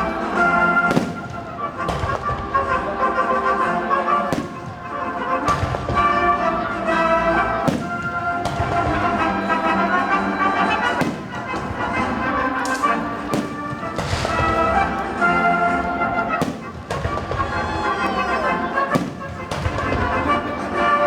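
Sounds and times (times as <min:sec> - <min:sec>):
fireworks booming: 0:00.0 - 0:03.0, 0:04.3 - 0:18.1, 0:18.9 - 0:21.0
instrumental music: 0:00.0 - 0:21.0.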